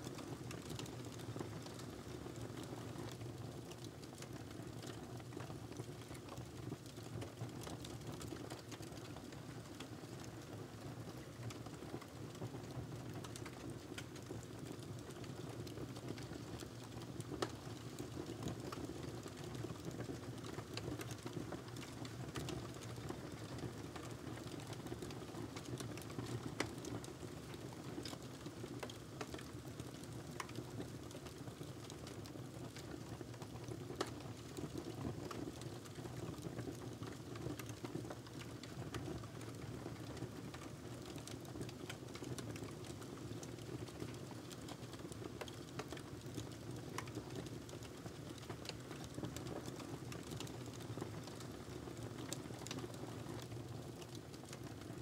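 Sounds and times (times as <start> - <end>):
soft clicks and crackles: 0.0 - 55.0.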